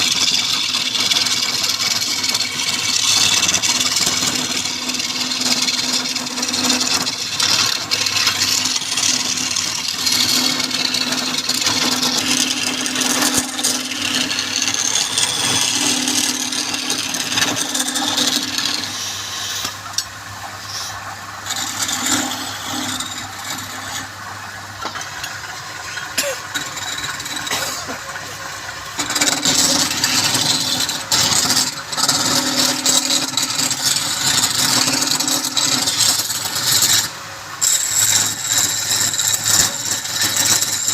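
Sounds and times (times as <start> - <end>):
turning tool cutting wood: 0.0 - 40.9
wood lathe motor hum: 0.0 - 40.9.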